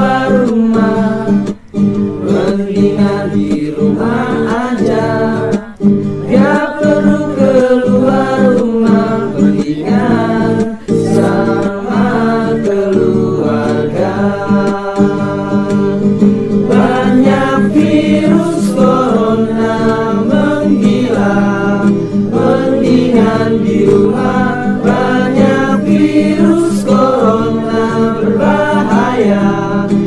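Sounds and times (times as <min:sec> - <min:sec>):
choir singing: 0:00.0 - 0:01.6, 0:02.2 - 0:30.0
instrumental accompaniment: 0:00.0 - 0:30.0.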